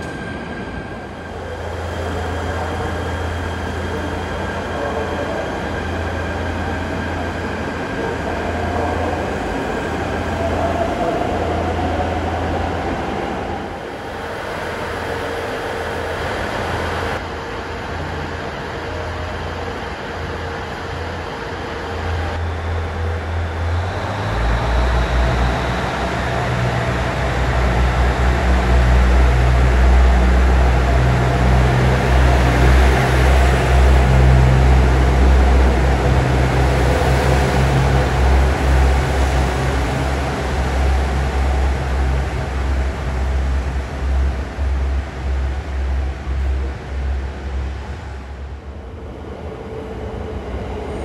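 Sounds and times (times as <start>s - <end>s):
train running noise: 0.0s - 51.0s.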